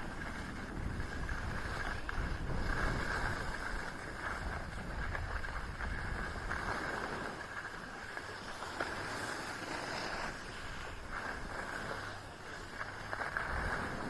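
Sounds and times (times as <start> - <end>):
wind rushing over microphone: 0.0 - 7.5, 9.0 - 14.0
skis hissing on snow: 0.0 - 14.0.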